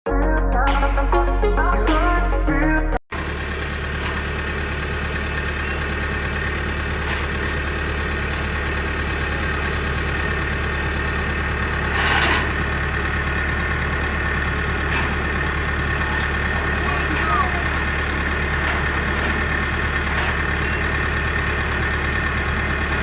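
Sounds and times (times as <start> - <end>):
vehicle engine idling: 3.2 - 23.0.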